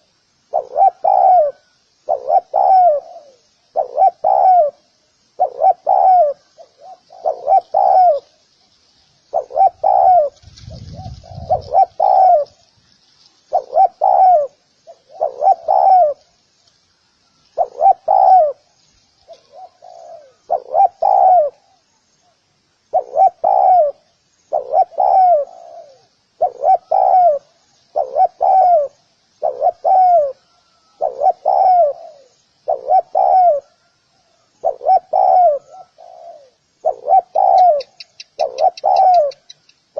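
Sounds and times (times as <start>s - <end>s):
dove cooing: 0.0s - 8.4s, 9.3s - 12.7s, 13.4s - 16.3s, 17.5s - 39.9s.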